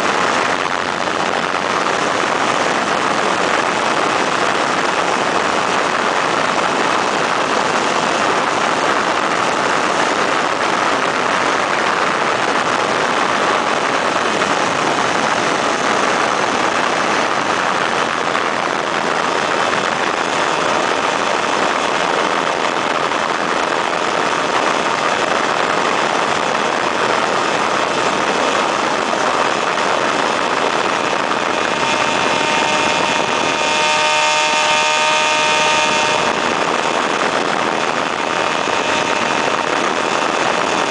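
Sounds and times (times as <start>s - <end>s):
ultralight two-stroke engine: 0.0s - 40.9s
wind rush on microphone: 0.0s - 40.9s.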